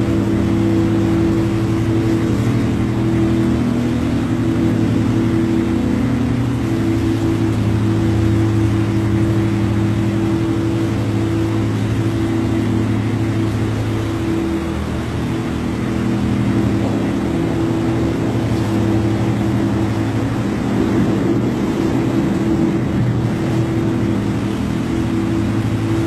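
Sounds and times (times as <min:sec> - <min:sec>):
low hum of held tones: 0:00.0 - 0:26.0
noise wash: 0:00.0 - 0:26.0.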